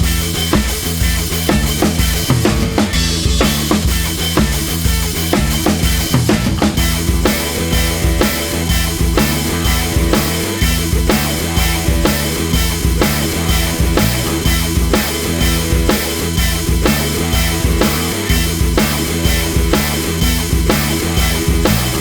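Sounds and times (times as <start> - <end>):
rock music with drum beat: 0.0 - 22.0.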